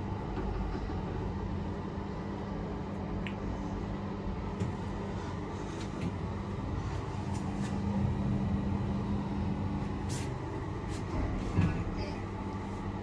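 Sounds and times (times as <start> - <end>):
lift machinery hum and rumble: 0.0 - 13.0.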